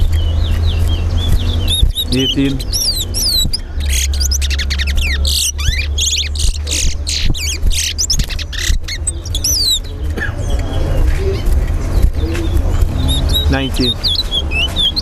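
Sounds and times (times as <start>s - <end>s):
finches whistling: 0.0s - 15.0s
steady low hum: 0.0s - 15.0s.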